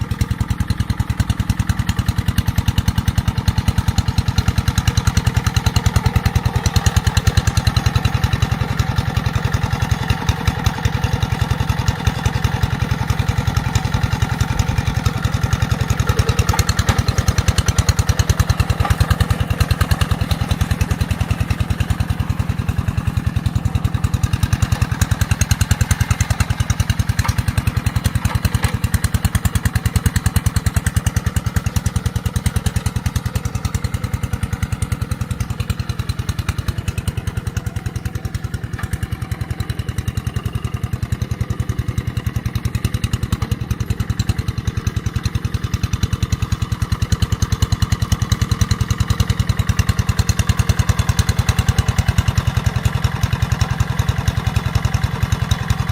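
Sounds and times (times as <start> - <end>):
tractor engine chugging: 0.0 - 55.9.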